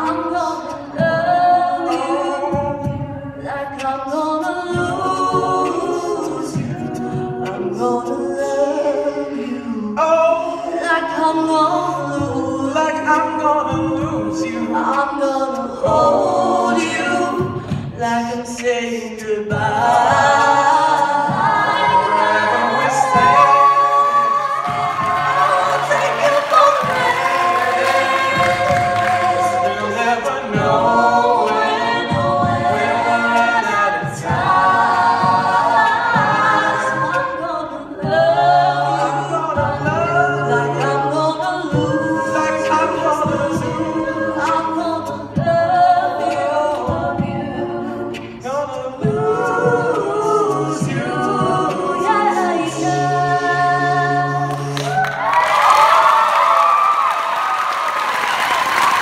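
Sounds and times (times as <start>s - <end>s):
a cappella group singing: 0.0s - 59.0s.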